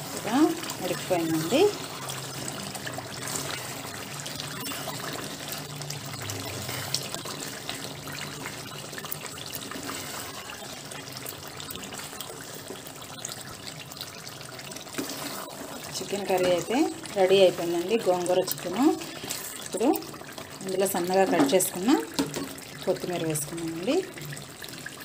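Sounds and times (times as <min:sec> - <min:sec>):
ladle stirring in a pan: 0:00.0 - 0:23.5
curry bubbling and sizzling in oil: 0:00.0 - 0:25.0.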